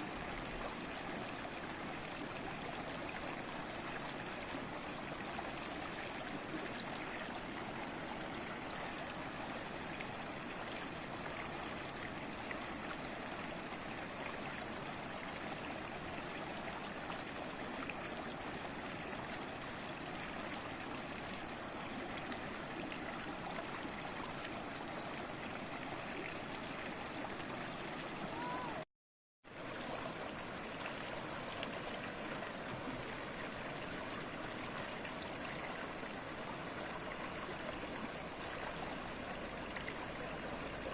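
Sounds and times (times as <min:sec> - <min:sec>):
babbling stream: 0:00.0 - 0:28.9, 0:29.5 - 0:40.9.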